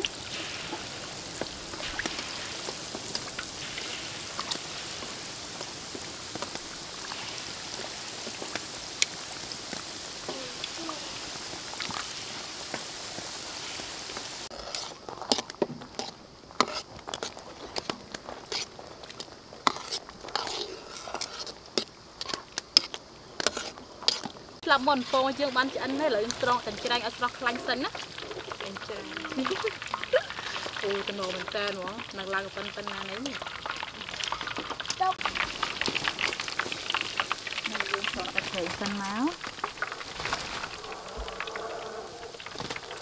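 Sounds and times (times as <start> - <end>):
chilies crackling and popping: 0.0 - 43.0
deep-frying sizzle: 0.0 - 43.0.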